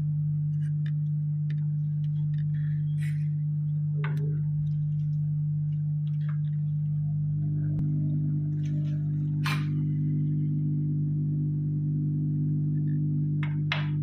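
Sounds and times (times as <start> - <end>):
low hum of rework station: 0.0 - 14.0.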